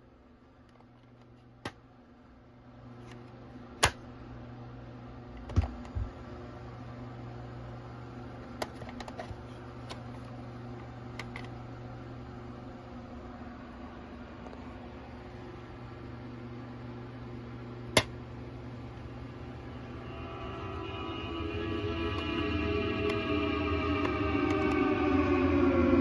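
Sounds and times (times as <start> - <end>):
cassette motor humming: 2.8 - 25.6.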